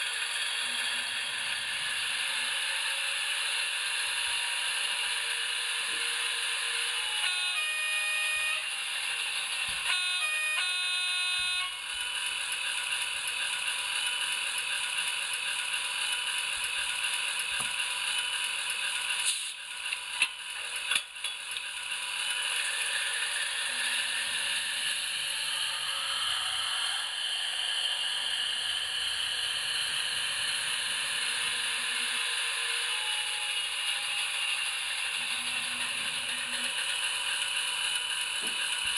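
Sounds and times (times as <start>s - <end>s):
diesel engine sound from small speaker: 0.0s - 38.9s.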